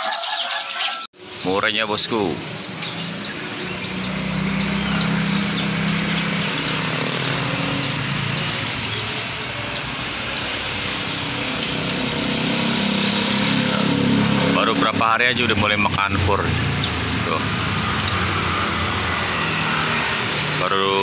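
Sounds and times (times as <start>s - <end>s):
noisy background: 1.2s - 21.0s
engine running: 2.4s - 21.0s.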